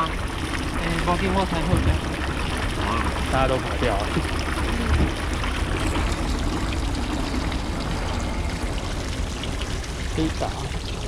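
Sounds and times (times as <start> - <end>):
low hum: 0.0 - 11.0
water running and splashing: 0.0 - 11.0.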